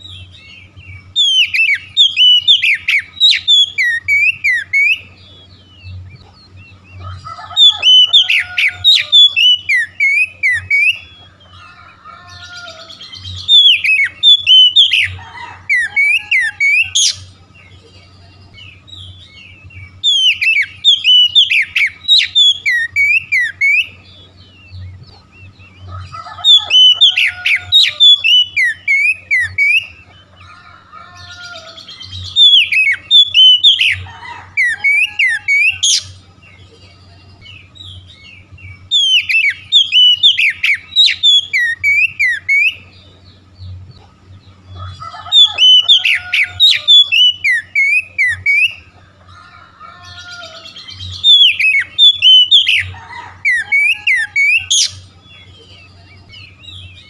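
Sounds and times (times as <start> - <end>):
bird singing whistles and chirps: 0.0 - 30.3, 31.2 - 43.8, 44.9 - 48.9, 50.0 - 57.0
bird twittering: 0.0 - 57.0.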